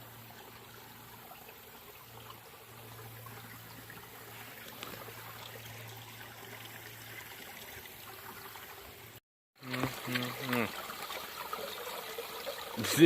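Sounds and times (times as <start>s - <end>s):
creek trickling: 0.0s - 13.0s.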